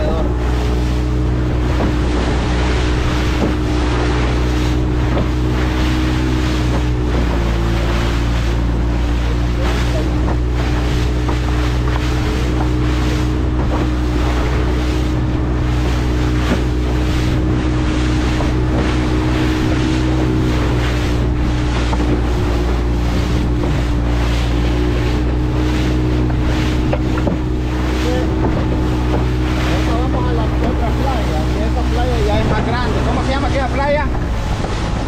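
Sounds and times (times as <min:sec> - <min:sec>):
motorboat engine humming: 0:00.0 - 0:35.0
water rushing around hull: 0:00.0 - 0:35.0
wind buffeting microphone: 0:00.0 - 0:35.0.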